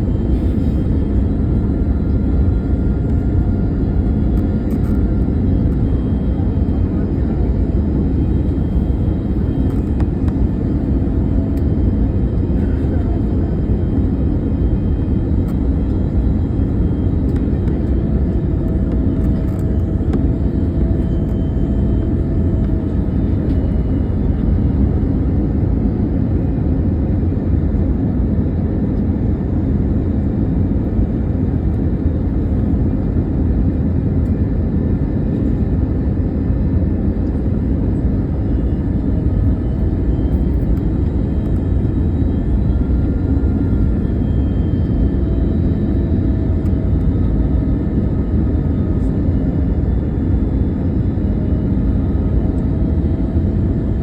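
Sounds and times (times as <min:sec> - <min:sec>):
airliner engine rumble: 0:00.0 - 0:54.0
faint steady whine: 0:00.0 - 0:54.0.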